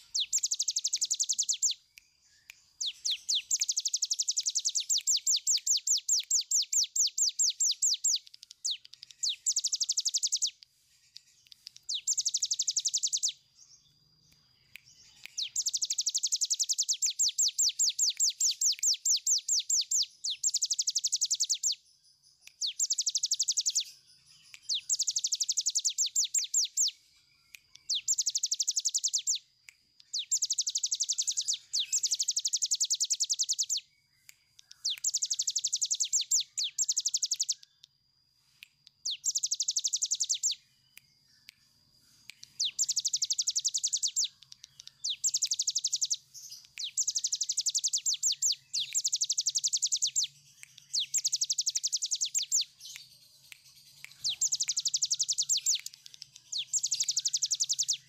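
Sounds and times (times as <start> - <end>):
bird singing trilled song: 0.0 - 38.0, 38.7 - 58.0.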